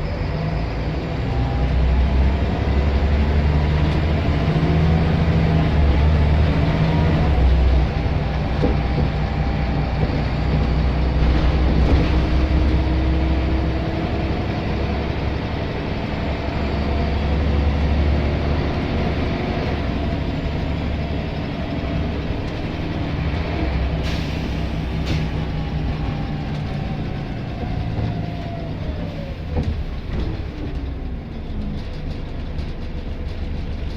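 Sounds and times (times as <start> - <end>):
bus diesel engine drone: 0.0 - 33.9.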